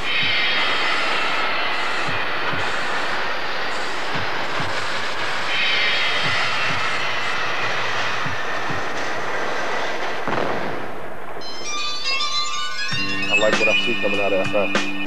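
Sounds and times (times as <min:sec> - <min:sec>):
metallic wheel squeal: 0:00.0 - 0:15.0
wheel and rail rushing noise: 0:00.0 - 0:15.0.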